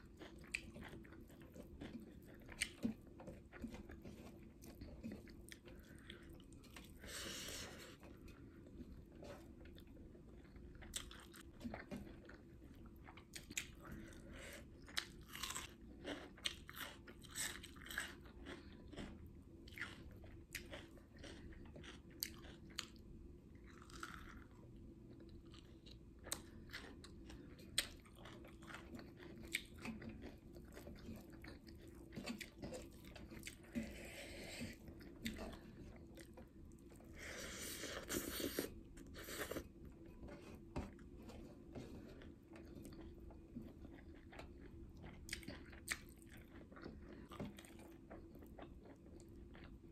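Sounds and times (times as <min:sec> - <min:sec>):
close-miked chewing: 0:00.0 - 0:49.9.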